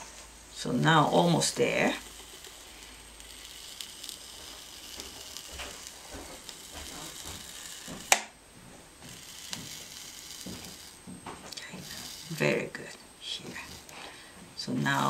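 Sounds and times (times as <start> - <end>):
hot wire melting foam sizzle: 0.0 - 15.0.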